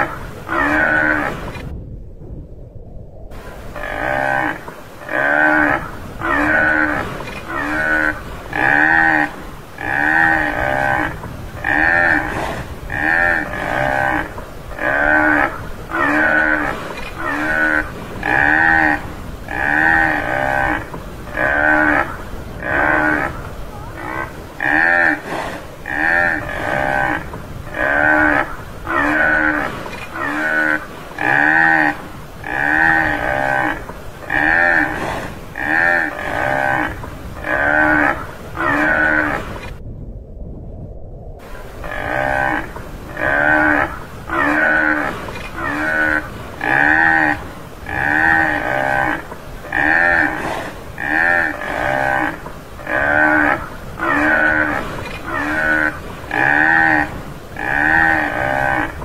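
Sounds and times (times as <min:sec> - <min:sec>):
buffalo calling: 0:00.0 - 0:01.6, 0:03.4 - 0:39.7, 0:41.4 - 0:59.0.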